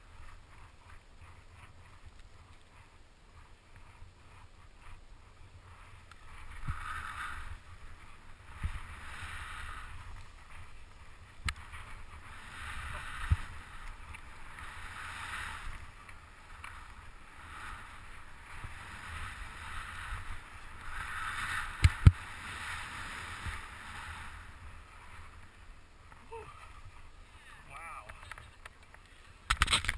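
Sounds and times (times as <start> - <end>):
skis swishing through powder snow: 0.0 - 27.6
low wind rumble: 0.0 - 29.9.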